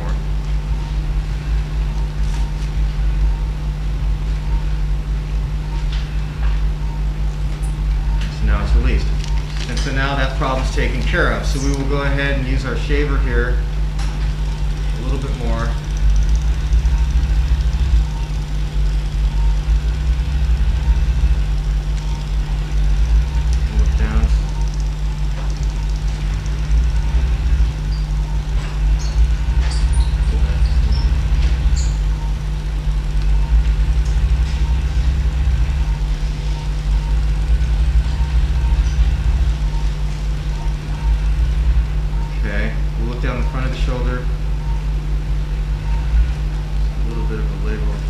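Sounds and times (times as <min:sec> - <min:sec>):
surgical shaver motor hum: 0:00.0 - 0:48.0.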